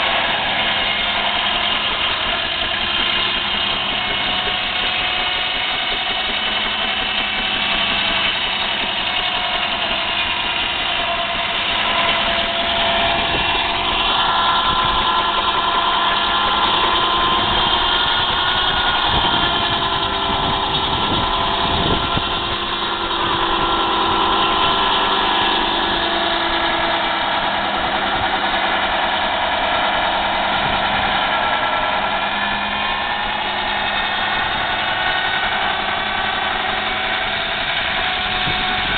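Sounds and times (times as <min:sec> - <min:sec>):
machinery drone with high tones: 0:00.0 - 0:38.9.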